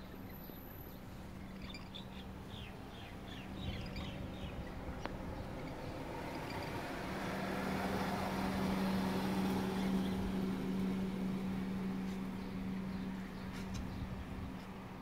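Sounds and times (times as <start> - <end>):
passing vehicle engine hum: 0.0 - 15.0.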